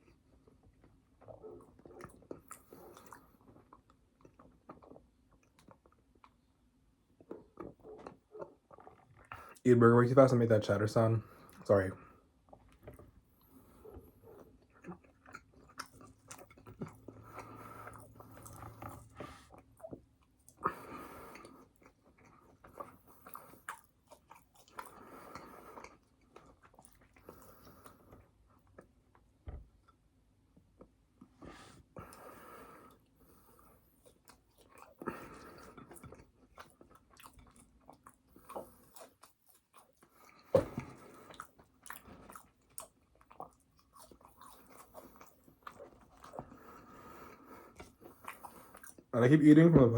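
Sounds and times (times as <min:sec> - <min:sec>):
chewing and biting food: 0:00.0 - 0:09.6, 0:12.4 - 0:30.0, 0:32.0 - 0:49.2.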